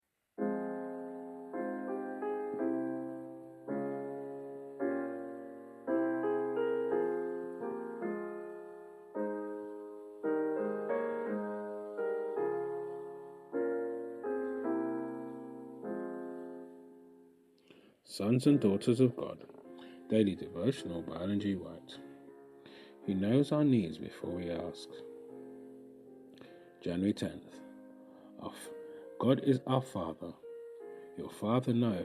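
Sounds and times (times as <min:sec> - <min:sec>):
slow solo piano chords: 0:00.4 - 0:17.5, 0:18.3 - 0:32.0.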